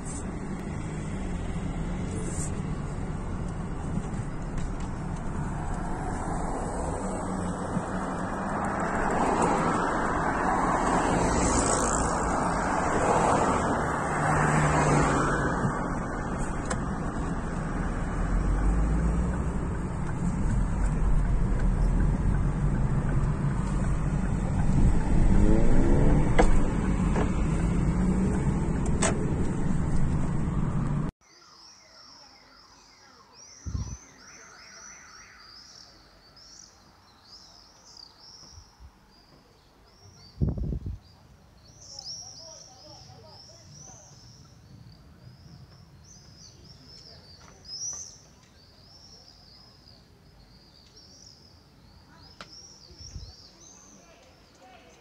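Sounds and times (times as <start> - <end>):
car road and engine noise: 0.0 - 31.2, 33.6 - 55.0.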